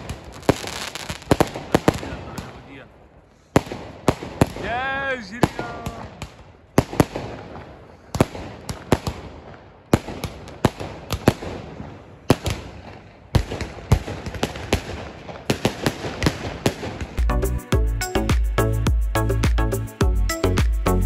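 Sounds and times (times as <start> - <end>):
firework bangs: 0.0 - 17.2
firecracker crackling: 0.0 - 17.3.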